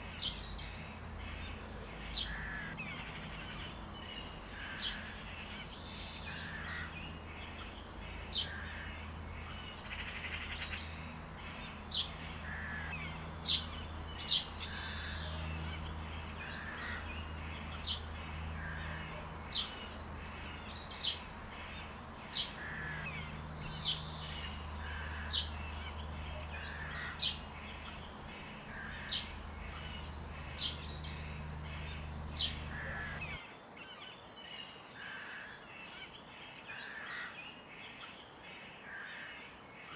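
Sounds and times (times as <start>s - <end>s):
low steady hum: 0.0s - 33.4s
songbirds chirping: 0.0s - 33.4s.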